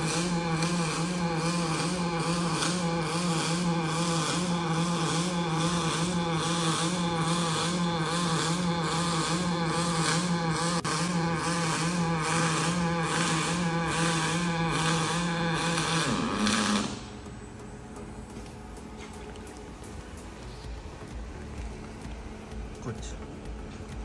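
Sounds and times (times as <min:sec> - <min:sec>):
welding arc buzzing: 0:00.0 - 0:24.0
workshop background: 0:00.0 - 0:24.0.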